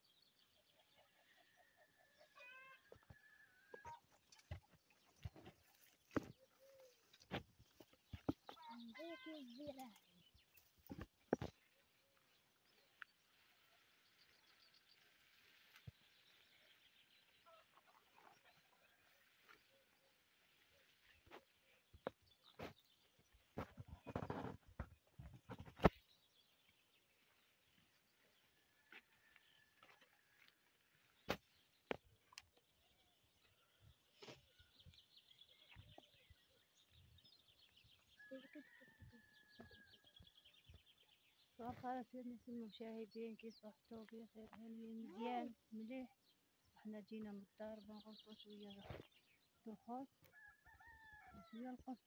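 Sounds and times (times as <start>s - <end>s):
faint birdsong: 0.0s - 52.0s.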